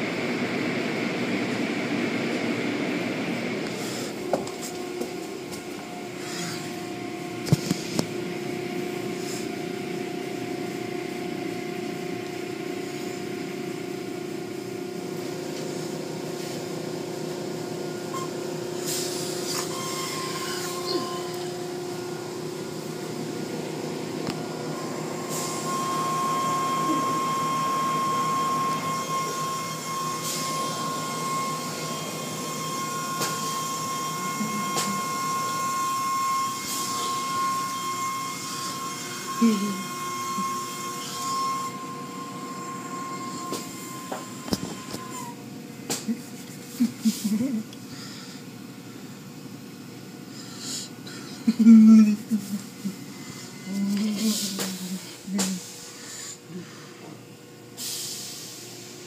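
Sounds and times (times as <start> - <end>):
steady whine: 0.0 - 57.7
car wash machinery humming: 0.0 - 59.0.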